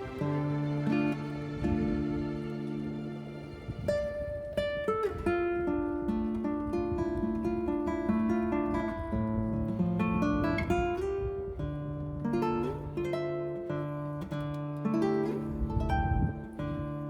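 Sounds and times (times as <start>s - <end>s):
acoustic guitar plucked melody: 0.0s - 17.0s.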